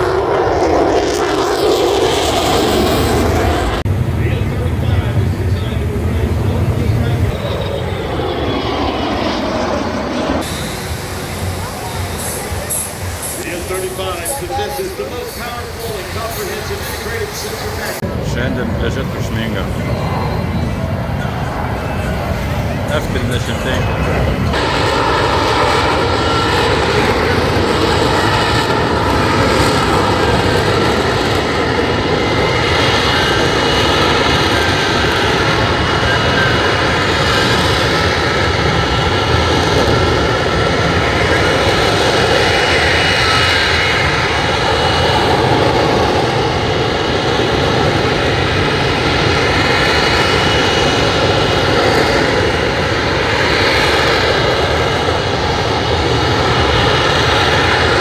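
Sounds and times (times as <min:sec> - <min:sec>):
fighter jet engine roar with whine: 0:00.0 - 0:58.0.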